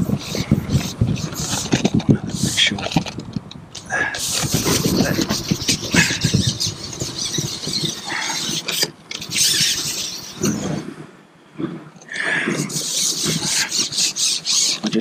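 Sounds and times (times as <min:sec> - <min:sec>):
fishing pole squeaking and rubbing: 0:00.0 - 0:10.9, 0:12.1 - 0:15.0.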